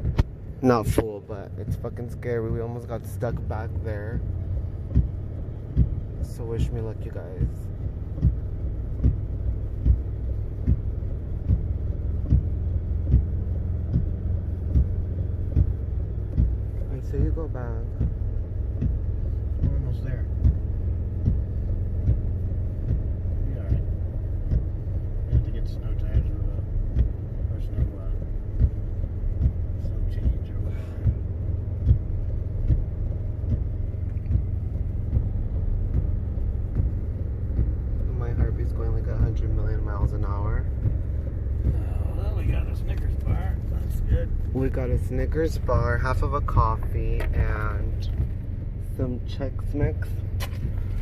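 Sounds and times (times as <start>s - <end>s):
pickup truck rumble from inside: 0.0s - 51.0s
regular thump: 0.0s - 51.0s.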